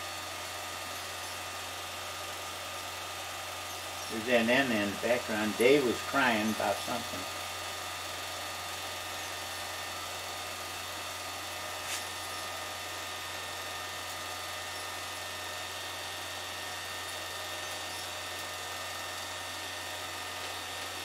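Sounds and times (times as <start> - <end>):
film projector motor hum: 0.0 - 21.0.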